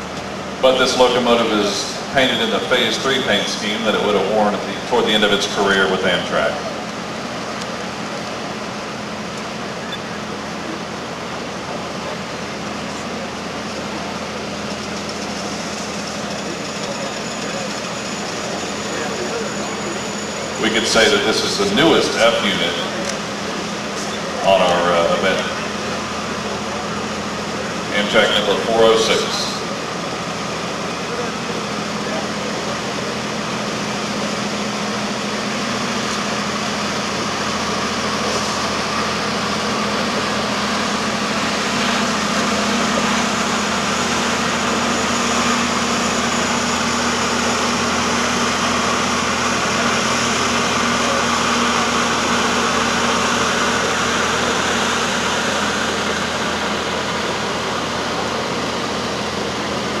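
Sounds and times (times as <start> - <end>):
diesel locomotive engine drone: 0.0 - 60.0.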